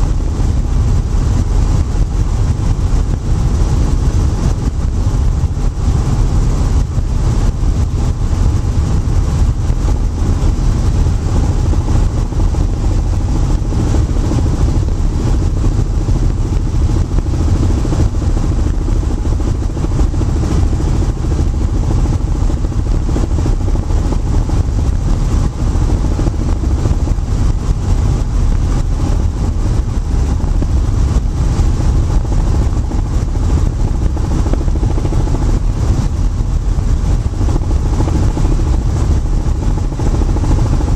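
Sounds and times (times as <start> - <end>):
helicopter cabin engine and rotor drone: 0.0 - 40.9.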